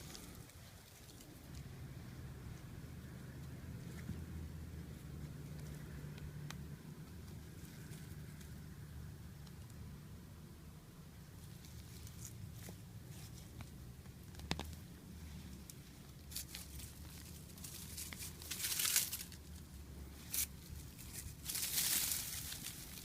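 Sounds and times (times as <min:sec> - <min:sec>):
rustling and crackling: 0:00.0 - 0:08.6, 0:11.1 - 0:23.0
low steady hum: 0:00.0 - 0:23.0.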